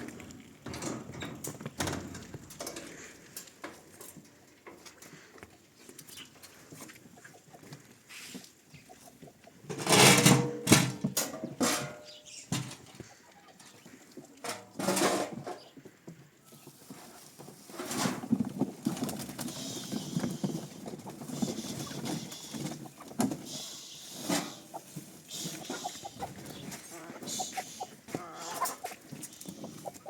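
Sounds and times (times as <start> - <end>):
chickens calling: 2.6 - 9.7, 11.4 - 30.0.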